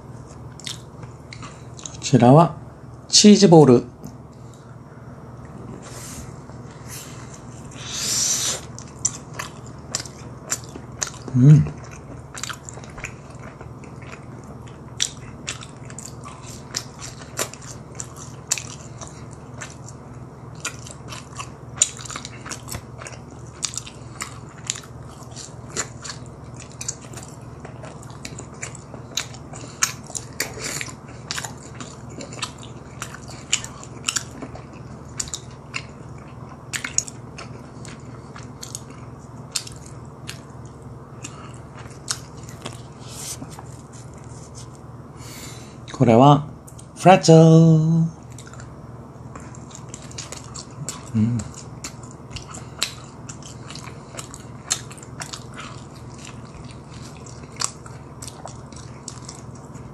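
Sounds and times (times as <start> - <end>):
steady low hum: 0.0 - 59.9
crunchy chewing: 0.2 - 2.0, 6.6 - 44.9, 48.2 - 59.9.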